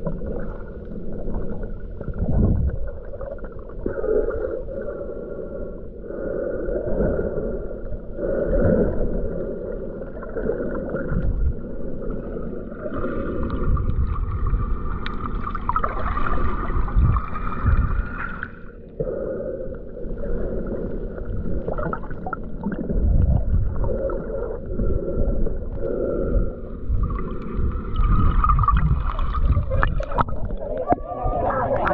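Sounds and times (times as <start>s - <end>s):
underwater rumbling and gurgling: 0.0s - 31.9s.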